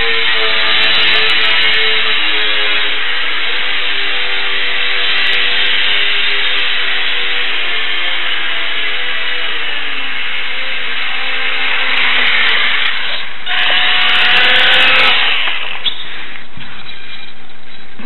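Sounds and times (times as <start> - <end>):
airflow rush: 0.0 - 16.3
electric motor and propeller whining: 0.0 - 18.0.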